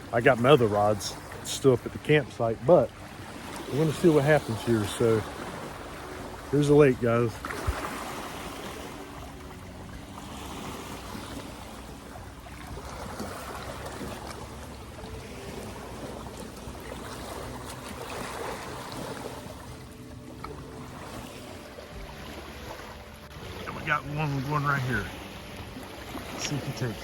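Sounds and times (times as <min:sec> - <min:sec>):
lake water lapping at bank: 0:00.0 - 0:27.0.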